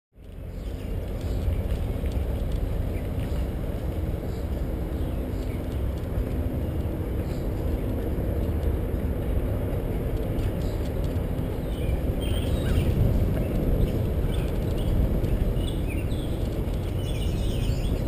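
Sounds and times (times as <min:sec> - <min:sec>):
bicycle tyre road noise: 0:00.2 - 0:18.0
wind buffeting microphone: 0:00.2 - 0:18.0.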